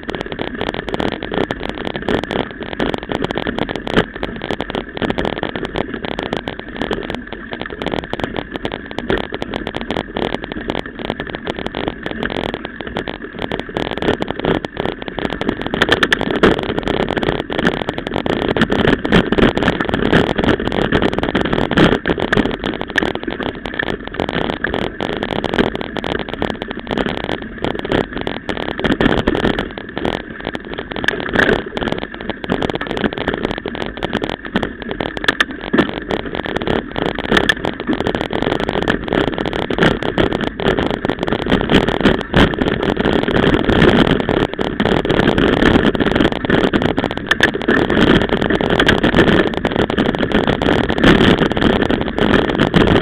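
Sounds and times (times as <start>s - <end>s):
bike rattling and knocking: 0.0s - 53.0s
wind noise: 0.0s - 53.0s.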